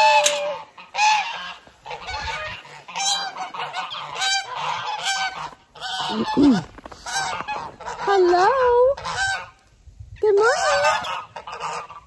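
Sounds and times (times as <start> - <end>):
geese honking: 0.0 - 9.6, 10.4 - 12.0.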